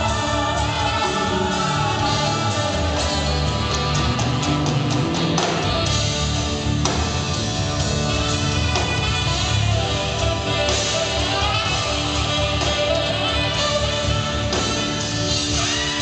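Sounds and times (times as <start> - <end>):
bass guitar: 0.0 - 16.0
drums: 0.0 - 16.0
electric guitar: 0.0 - 16.0.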